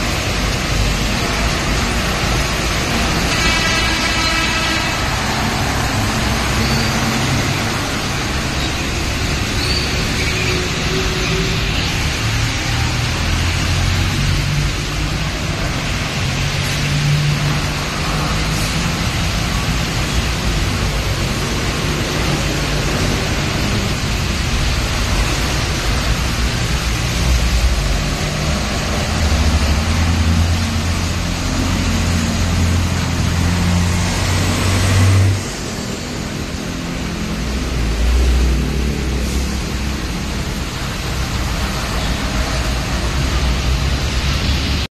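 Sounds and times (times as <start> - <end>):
truck diesel engines humming: 0.0 - 44.9
tyres hissing on wet road: 0.0 - 44.9.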